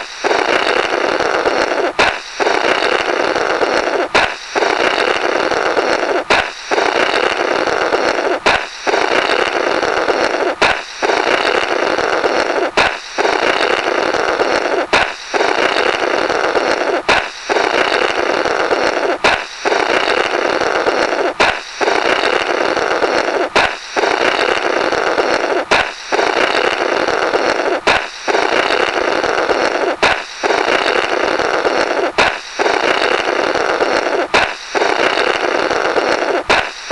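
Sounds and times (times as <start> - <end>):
balloon popping: 0.0 - 36.9
buzzy rasping balloon blowing: 0.0 - 36.9.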